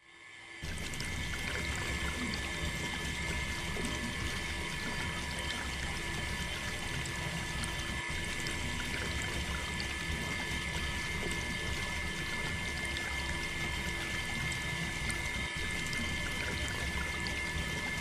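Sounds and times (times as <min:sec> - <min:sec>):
small pump motor whine: 0:00.0 - 0:18.0
water pouring and trickling: 0:00.6 - 0:18.0.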